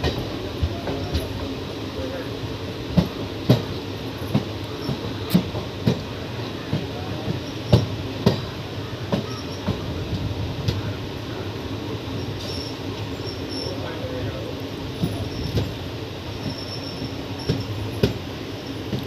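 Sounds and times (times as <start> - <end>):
train coach rumbling: 0.0 - 19.0
wheels clacking on track: 0.0 - 19.0.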